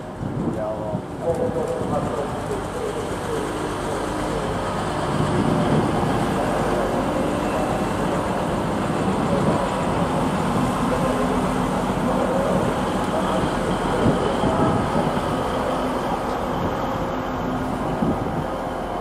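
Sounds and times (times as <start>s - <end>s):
diesel engines running: 0.0s - 19.0s
train wheels rumbling on track: 0.0s - 19.0s.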